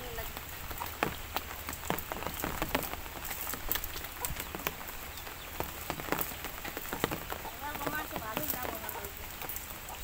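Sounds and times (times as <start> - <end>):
water drops pattering and splashing: 0.0 - 10.0.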